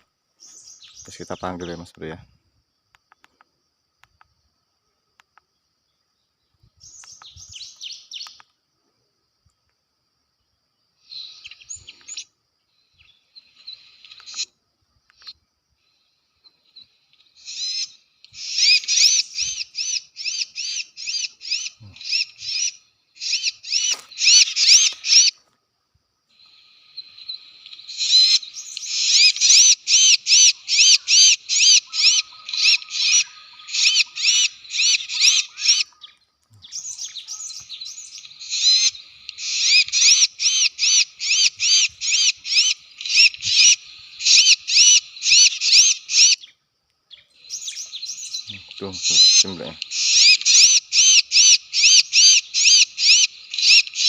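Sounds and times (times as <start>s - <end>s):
rapid sharp bird chirping: 0.0s - 2.2s, 5.2s - 8.6s, 10.9s - 25.4s, 26.4s - 54.0s.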